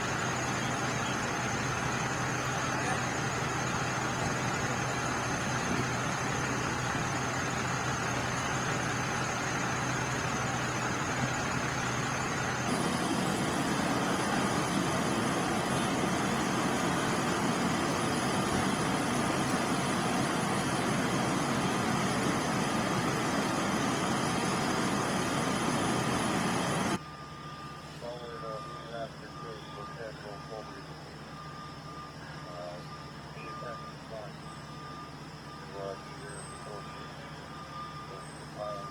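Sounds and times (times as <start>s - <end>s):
low hum: 0.0s - 35.6s
large vehicle engine running: 0.0s - 38.9s.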